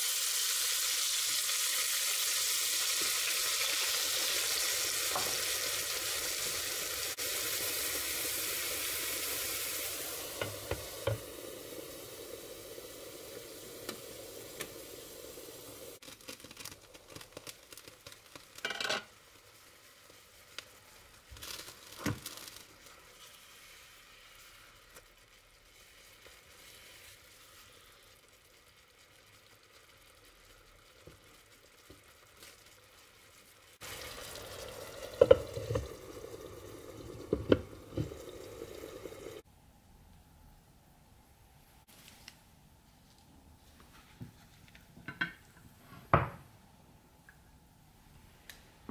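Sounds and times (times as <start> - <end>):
chicken sizzling in a frying pan: 0.0 - 39.5.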